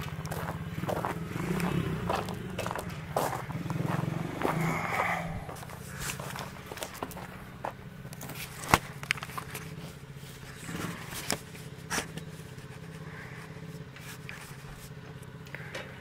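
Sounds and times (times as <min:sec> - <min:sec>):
footsteps on gravel: 0:00.0 - 0:15.3
quad bike engine idling: 0:00.0 - 0:16.0.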